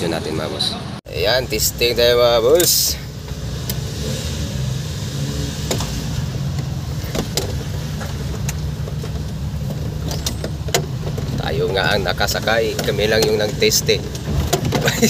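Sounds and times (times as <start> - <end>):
vehicle engine running: 1.1 - 15.0.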